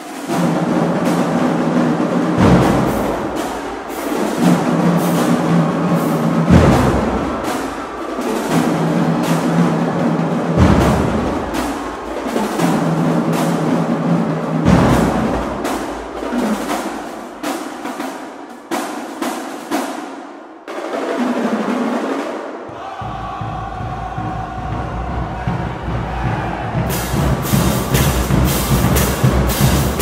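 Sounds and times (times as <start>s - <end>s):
marching drumline: 0.0s - 30.0s.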